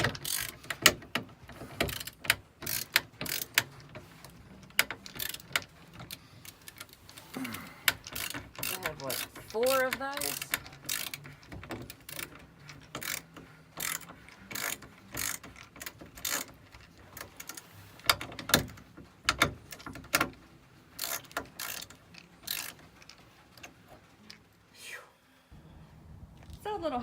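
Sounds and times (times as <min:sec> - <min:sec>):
hand ratchet clicking: 0:00.0 - 0:20.4, 0:21.0 - 0:24.4.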